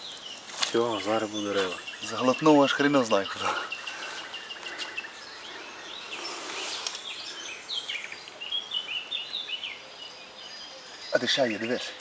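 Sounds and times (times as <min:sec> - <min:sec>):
outdoor background hiss: 0:00.0 - 0:12.0
small birds chirping: 0:00.0 - 0:12.0.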